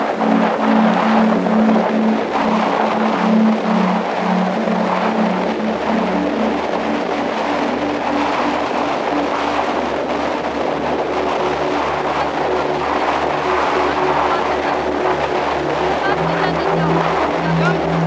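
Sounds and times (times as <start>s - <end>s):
dense rushing noise: 0.0s - 18.0s
motor running steadily: 0.0s - 18.0s
regular low pulse: 0.0s - 18.0s.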